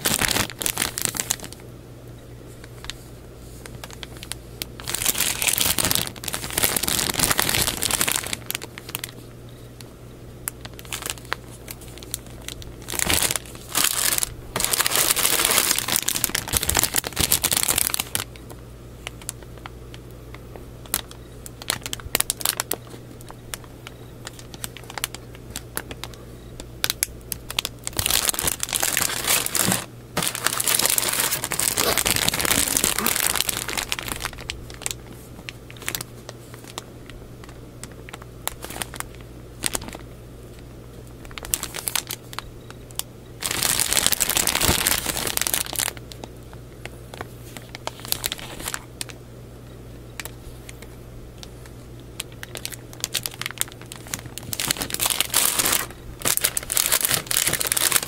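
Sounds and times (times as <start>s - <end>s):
plastic bags crinkling: 0.0s - 1.6s, 2.5s - 9.3s, 10.4s - 49.2s, 50.1s - 58.0s.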